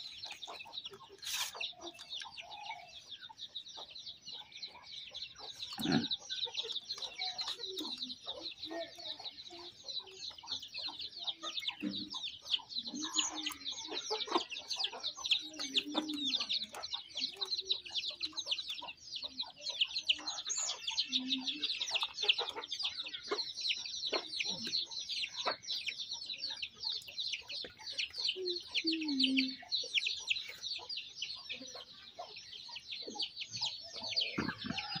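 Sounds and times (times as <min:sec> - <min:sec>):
chickens clucking: 0:00.0 - 0:35.0
high chirping: 0:00.0 - 0:35.0.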